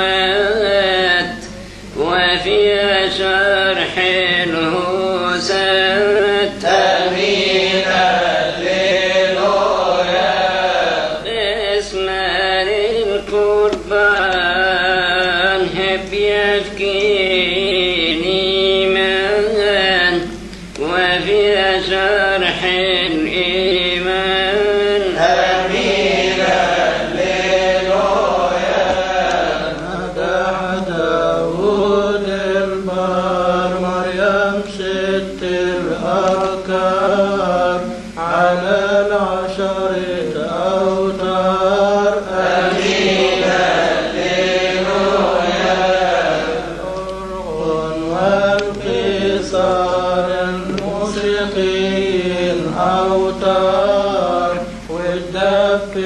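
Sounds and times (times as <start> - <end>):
man chanting a hymn: 0.0 - 56.0.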